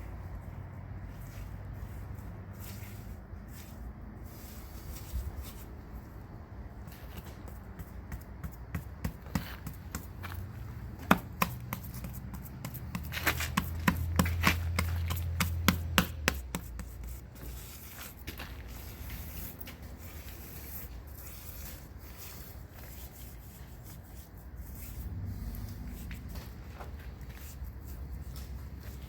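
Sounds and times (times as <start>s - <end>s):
hands rubbing and smoothing clay: 0.1s - 29.0s.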